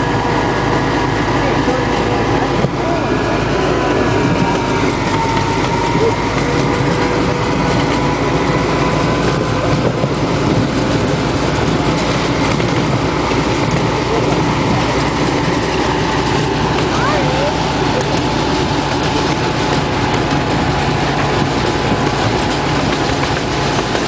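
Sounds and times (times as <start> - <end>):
miniature train wheels on rails: 0.0 - 24.0.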